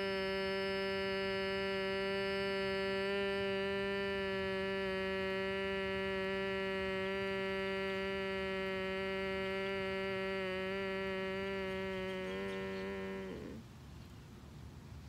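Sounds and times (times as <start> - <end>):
woman humming a steady note: 0.0 - 13.7.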